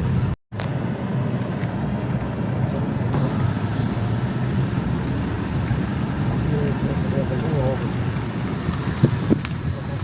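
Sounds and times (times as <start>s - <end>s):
car engine and tyres droning: 0.0s - 10.0s.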